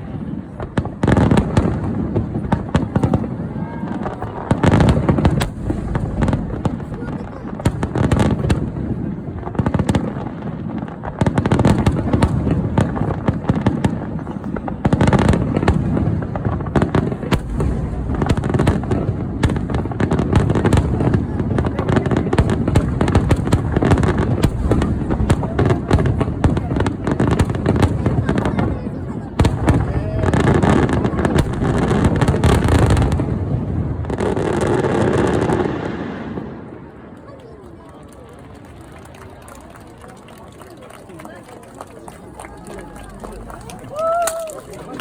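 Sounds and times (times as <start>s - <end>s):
fireworks bursts and crackling: 0.0s - 45.0s.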